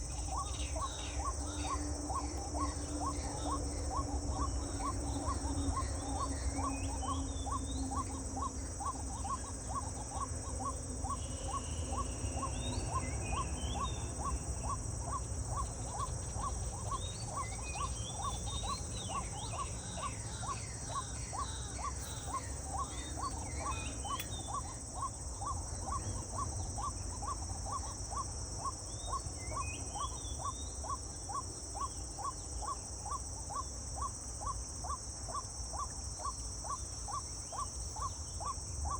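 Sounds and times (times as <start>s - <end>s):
bird chirps: 0.0s - 38.9s.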